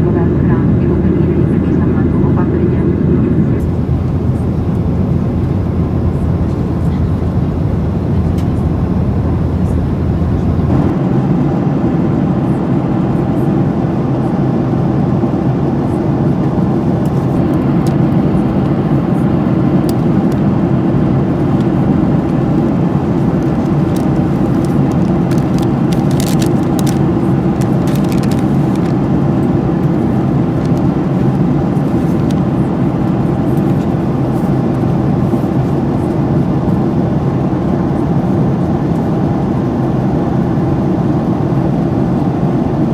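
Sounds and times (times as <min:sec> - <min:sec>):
jet engine drone in cabin: 0:00.0 - 0:42.9.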